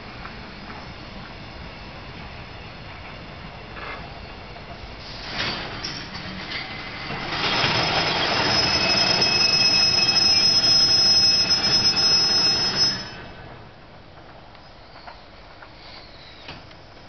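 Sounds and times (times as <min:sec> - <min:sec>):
electric train equipment whine: 0:00.0 - 0:17.0.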